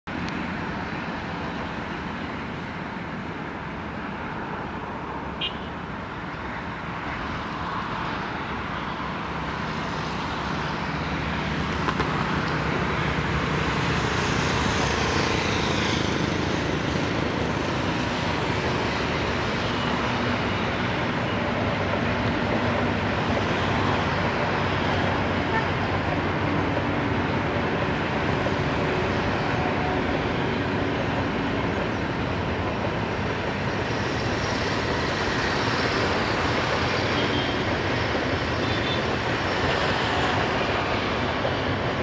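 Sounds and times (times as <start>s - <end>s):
train wheels rumbling on rails: 0.1s - 42.0s.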